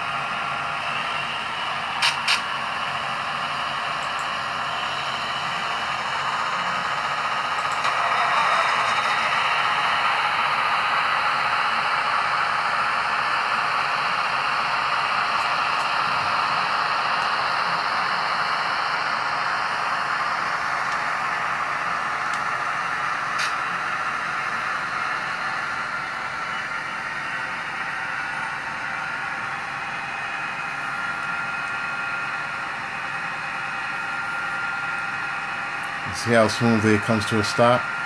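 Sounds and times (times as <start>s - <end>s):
model locomotive engine sound: 0.0s - 38.0s.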